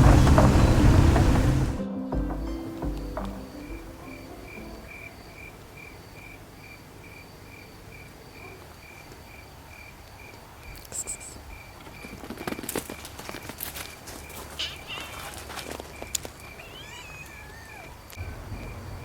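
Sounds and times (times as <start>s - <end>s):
cricket chirping: 3.0s - 19.0s.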